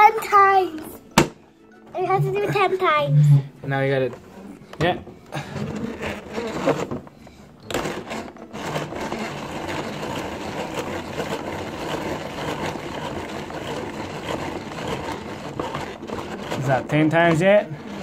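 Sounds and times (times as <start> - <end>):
toy slush maker grinding ice: 2.0 - 4.2, 5.4 - 18.0.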